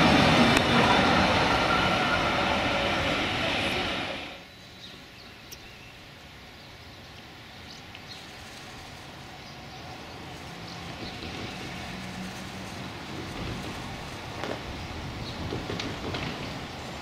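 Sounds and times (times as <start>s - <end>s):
distant steam locomotive: 0.0s - 5.4s, 6.1s - 17.0s.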